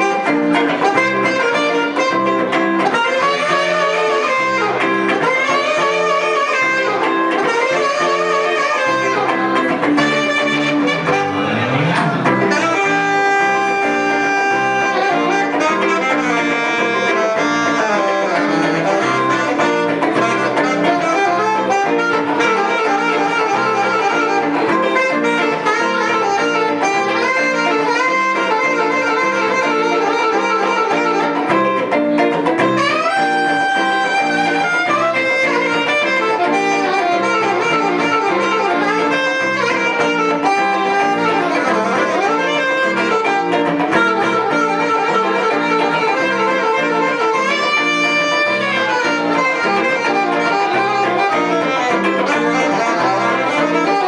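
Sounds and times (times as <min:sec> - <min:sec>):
electric guitar accompaniment: 0:00.0 - 0:54.0
saxophone melody: 0:00.0 - 0:54.0.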